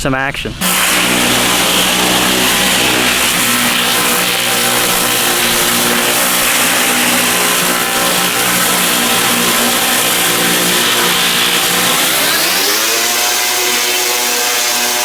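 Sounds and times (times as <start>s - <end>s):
steady hiss: 0.0s - 12.1s.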